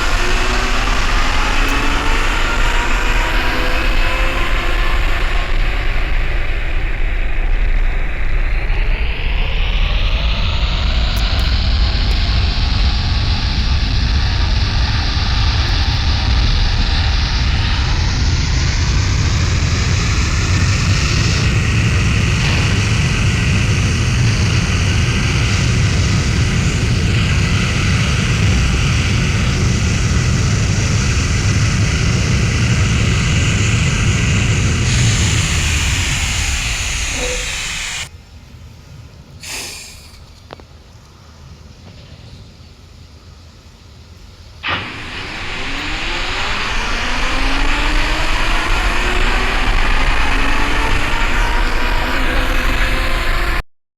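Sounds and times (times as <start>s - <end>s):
jet engine roaring with whine: 0.0s - 38.2s, 44.6s - 53.7s.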